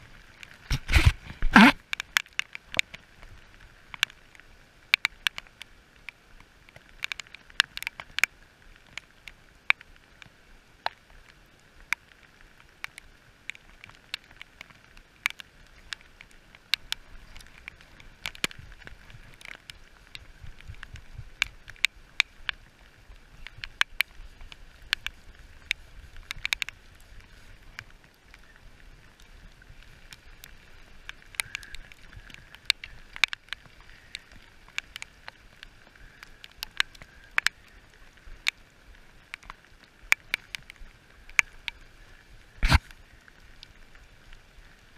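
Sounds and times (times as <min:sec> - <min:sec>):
rain falling on river: 0:00.0 - 0:44.9
raindrops tapping camera housing: 0:00.0 - 0:44.9.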